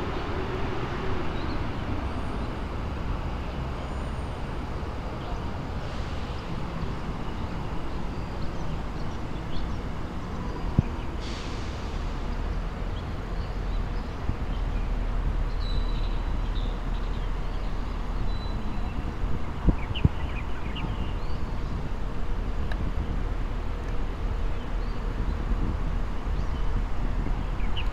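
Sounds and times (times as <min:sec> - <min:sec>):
distant traffic rumble: 0:00.0 - 0:27.9.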